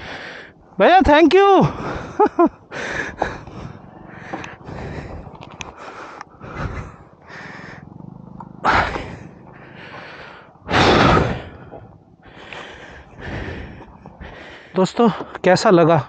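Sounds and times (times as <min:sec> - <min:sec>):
man breathing hard: 0:00.0 - 0:00.7, 0:01.7 - 0:07.9, 0:08.6 - 0:15.4.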